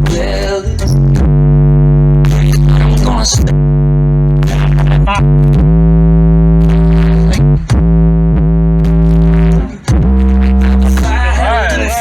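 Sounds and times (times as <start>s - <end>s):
synthesizer chords over heavy bass: 0.0s - 12.0s.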